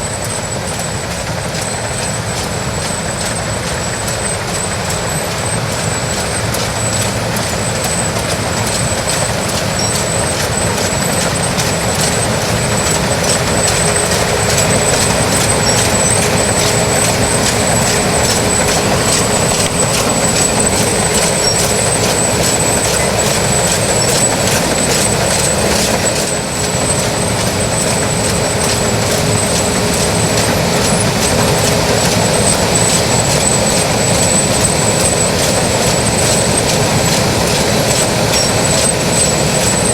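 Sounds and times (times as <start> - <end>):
combine harvester running: 0.0 - 39.9
faint regular ticking: 0.2 - 39.9.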